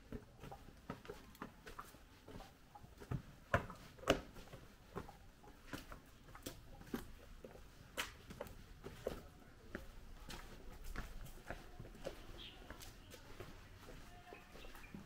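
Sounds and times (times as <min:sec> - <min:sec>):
footsteps walking: 0:00.0 - 0:15.0.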